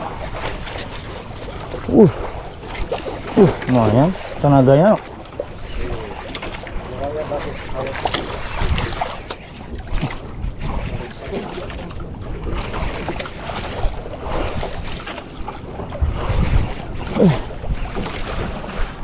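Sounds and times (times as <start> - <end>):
water sloshing against boat hull: 0.0 - 19.0
wind buffeting microphone: 0.0 - 19.0.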